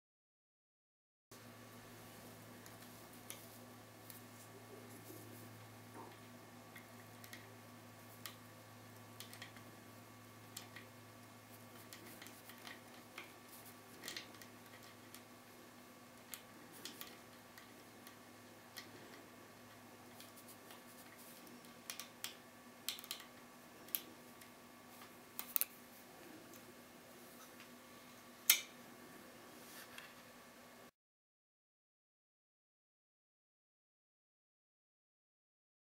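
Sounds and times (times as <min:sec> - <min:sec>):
faint hum: 0:01.3 - 0:30.9.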